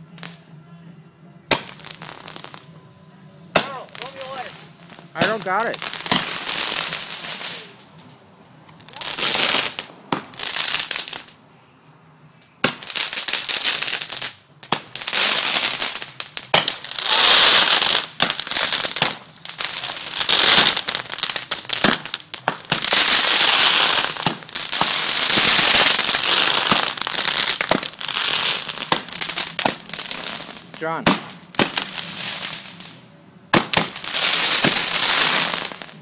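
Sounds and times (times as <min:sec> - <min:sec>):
fireworks hissing and crackling: 0:00.0 - 0:00.5, 0:01.5 - 0:11.6, 0:12.4 - 0:36.0
fireworks sharp pops: 0:01.5 - 0:02.7, 0:03.5 - 0:11.4, 0:12.6 - 0:36.0.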